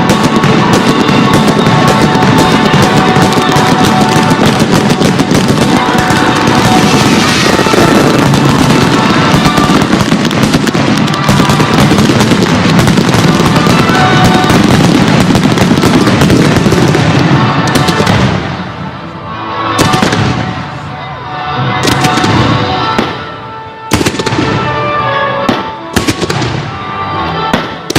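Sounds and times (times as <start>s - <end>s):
fireworks bangs and crackles: 0.0s - 27.9s.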